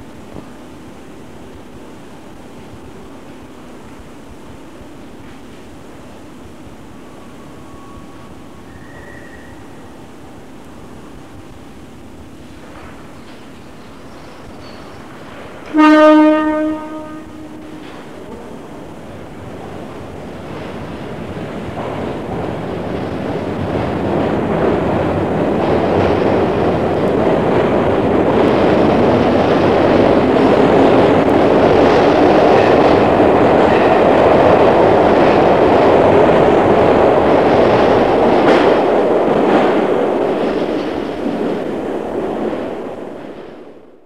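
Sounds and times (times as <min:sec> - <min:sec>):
electric train rumbling: 0:00.0 - 0:44.0.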